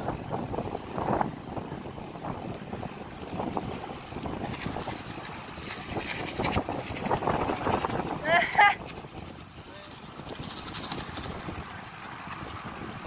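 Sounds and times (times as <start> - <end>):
bicycle tyres rumbling on asphalt: 0.0 - 13.0
wind buffeting microphone: 0.0 - 13.0.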